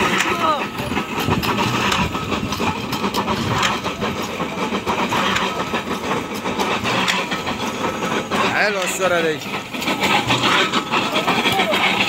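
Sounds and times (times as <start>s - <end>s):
baler engine running: 0.0s - 12.0s.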